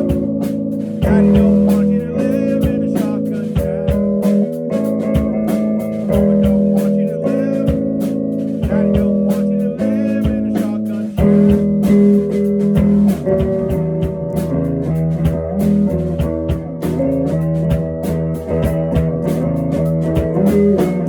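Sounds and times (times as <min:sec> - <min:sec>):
drums steady beat: 0:00.0 - 0:21.0
guitar: 0:00.0 - 0:21.0.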